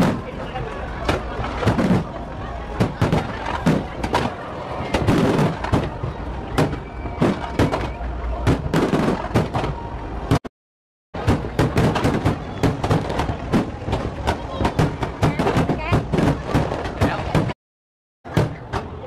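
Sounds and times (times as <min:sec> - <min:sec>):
fireworks bangs and crackles: 0:00.0 - 0:10.4, 0:11.2 - 0:17.6.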